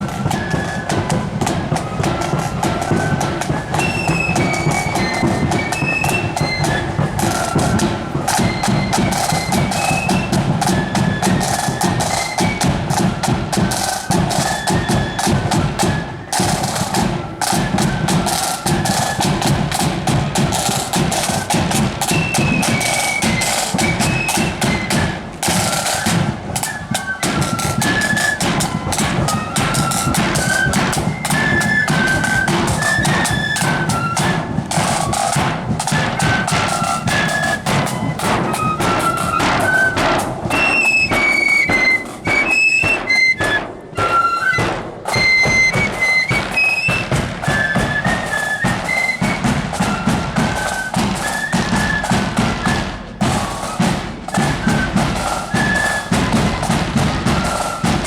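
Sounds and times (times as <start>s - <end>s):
bass and snare drums: 0.0s - 58.0s
flutes playing melody: 0.0s - 58.0s.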